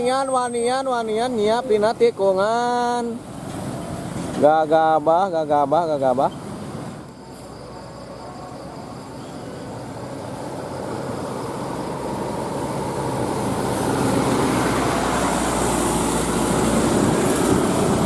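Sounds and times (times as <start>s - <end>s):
large road vehicle approaching: 0.0s - 18.0s.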